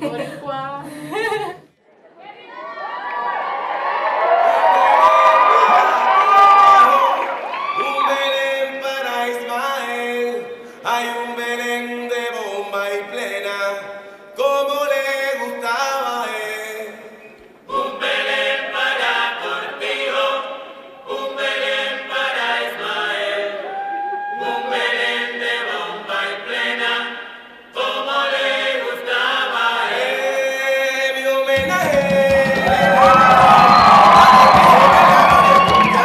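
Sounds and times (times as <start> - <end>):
voices singing unaccompanied: 4.6 - 13.8, 14.4 - 36.0.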